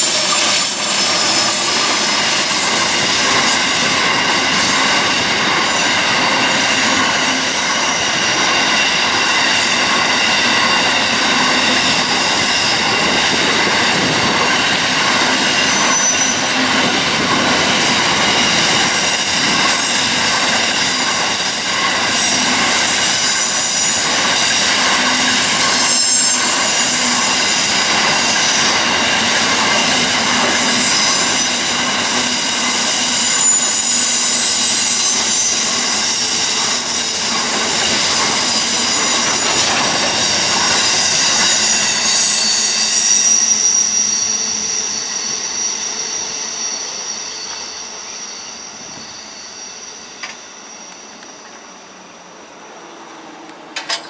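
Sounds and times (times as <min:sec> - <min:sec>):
high-pitched wheel squeal: 0:00.0 - 0:14.1, 0:15.2 - 0:51.9
train wagons rolling past: 0:00.0 - 0:51.8, 0:52.8 - 0:54.0.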